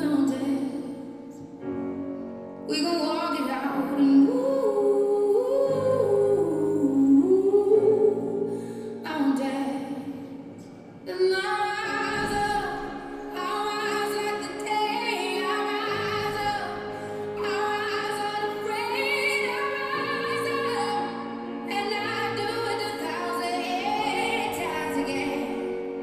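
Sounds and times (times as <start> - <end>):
woman singing slow song: 0.0 - 1.4, 2.7 - 26.0.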